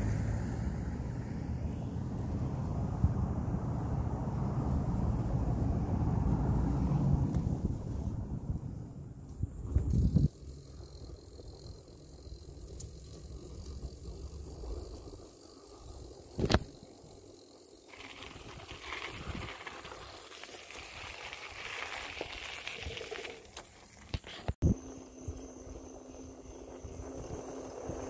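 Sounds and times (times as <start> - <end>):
bicycle tyres on wooden boardwalk: 0.0 - 28.0
bicycle tyres on gravel: 1.7 - 24.6, 25.2 - 28.0.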